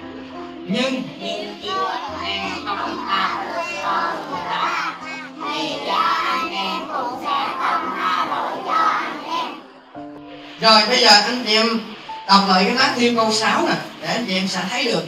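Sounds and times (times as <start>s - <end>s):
congregation chanting in unison: 0.6s - 15.0s.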